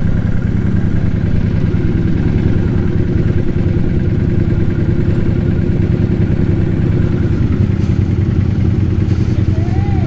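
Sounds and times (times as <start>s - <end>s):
motorcycle engine idling low: 0.0s - 10.0s.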